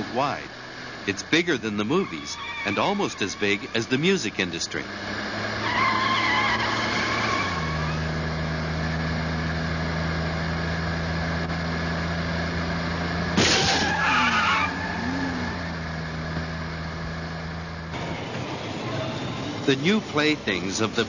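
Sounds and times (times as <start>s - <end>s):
video game engine drone: 0.0s - 21.0s.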